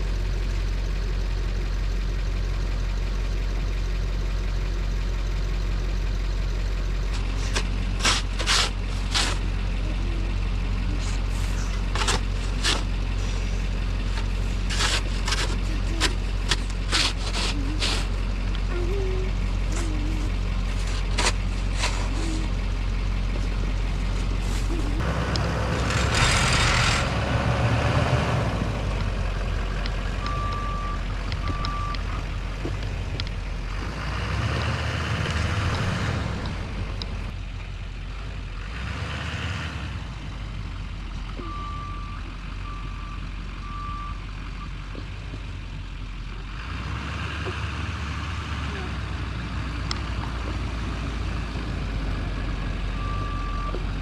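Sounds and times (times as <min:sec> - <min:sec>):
truck engine straining: 0:00.0 - 0:54.0.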